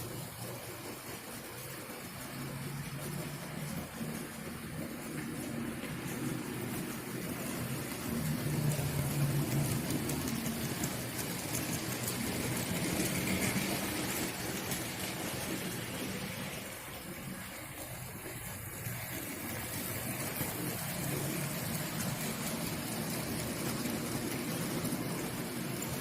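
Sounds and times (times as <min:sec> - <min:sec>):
model train motors humming: 0:00.0 - 0:26.0
wagon wheels rattling on track: 0:00.0 - 0:26.0.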